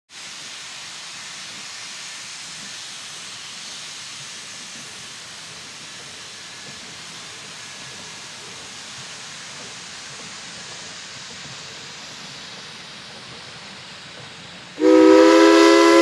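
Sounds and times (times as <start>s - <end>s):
train rolling past with hiss: 0.1s - 16.0s.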